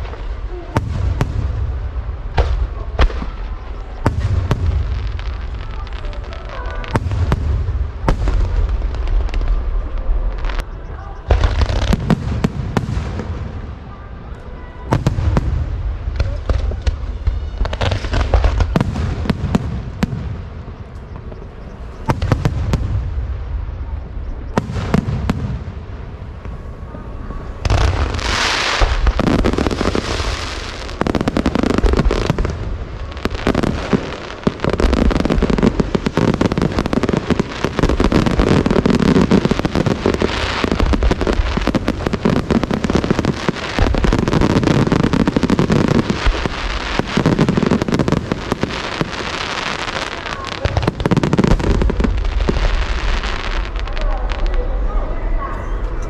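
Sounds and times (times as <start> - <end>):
fireworks crackling: 0.0 - 55.4.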